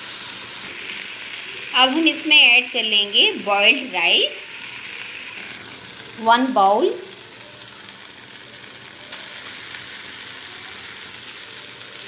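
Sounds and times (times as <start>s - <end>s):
rice sizzling in a frying pan: 0.0s - 12.0s.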